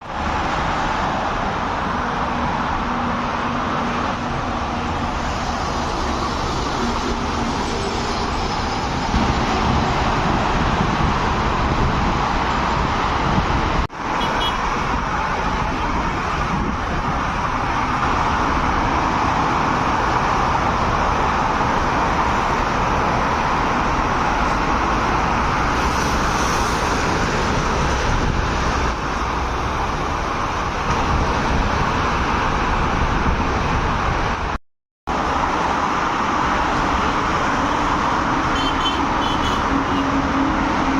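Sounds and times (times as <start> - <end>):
road traffic passing: 0.0 - 40.9.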